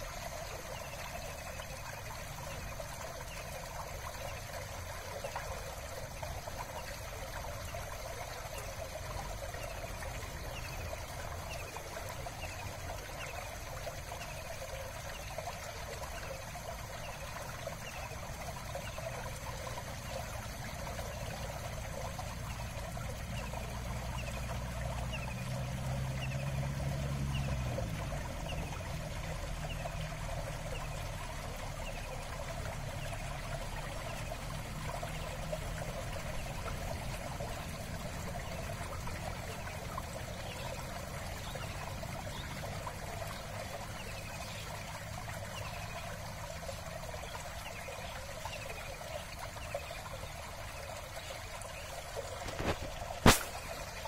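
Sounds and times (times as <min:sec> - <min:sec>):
trickle of running water: 0:00.0 - 0:54.0.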